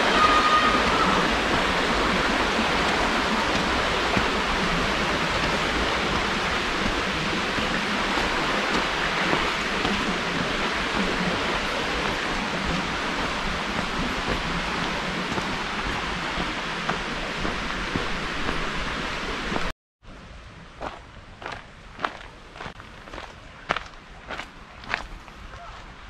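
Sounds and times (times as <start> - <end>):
stream running over rocks: 0.0 - 19.7, 20.6 - 26.0.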